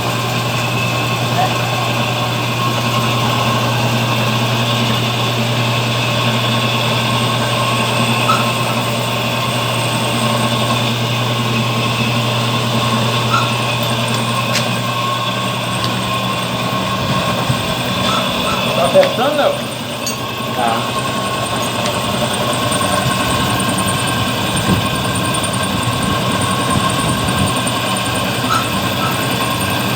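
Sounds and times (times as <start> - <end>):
drill press motor humming: 0.0 - 29.9.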